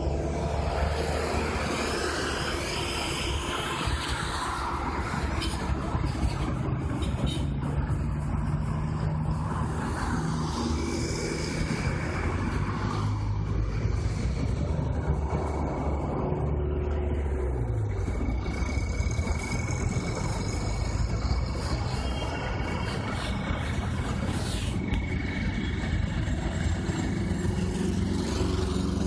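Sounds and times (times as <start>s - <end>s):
vehicles driving past: 0.0s - 29.0s.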